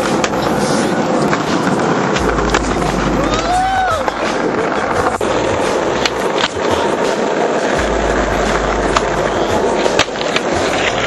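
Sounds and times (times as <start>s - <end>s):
skateboard clacks: 0.0s - 11.0s
skateboard wheels rolling on concrete: 0.0s - 11.0s.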